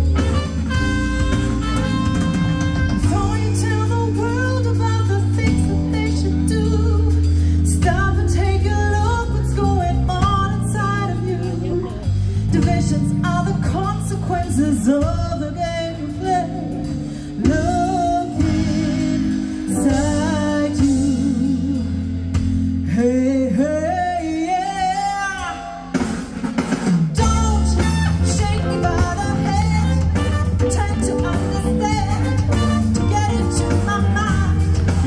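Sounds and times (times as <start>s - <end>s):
bass: 0.0s - 35.0s
guitar: 0.0s - 35.0s.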